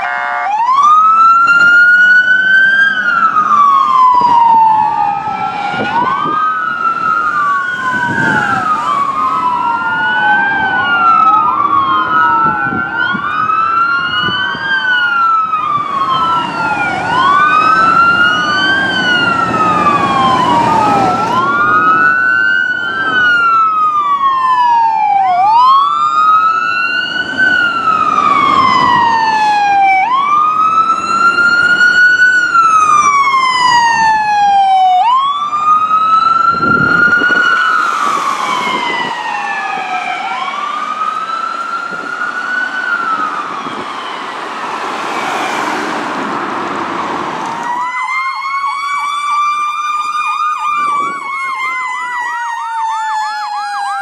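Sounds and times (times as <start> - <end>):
electronic wail sirens: 0.0 - 54.0
engine and traffic rumble: 0.0 - 54.0.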